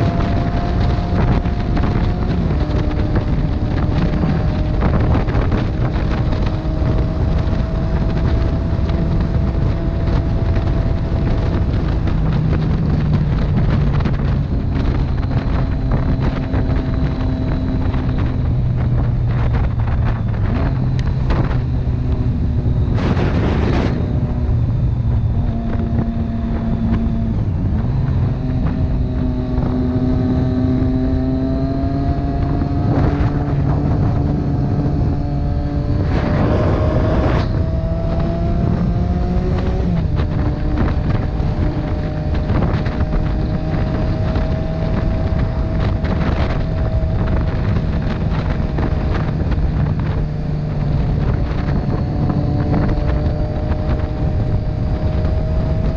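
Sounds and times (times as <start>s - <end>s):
motorcycle engine running: 0.0s - 55.9s
wind rush on microphone: 0.0s - 55.9s.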